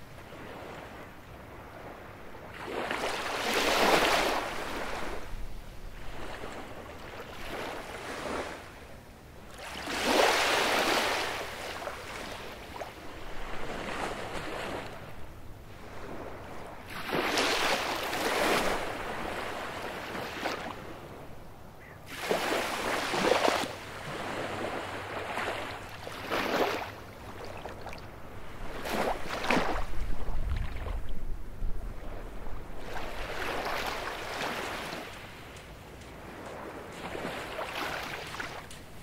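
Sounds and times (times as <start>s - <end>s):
waves washing onto beach: 0.0s - 8.7s, 9.4s - 21.1s, 22.1s - 39.0s.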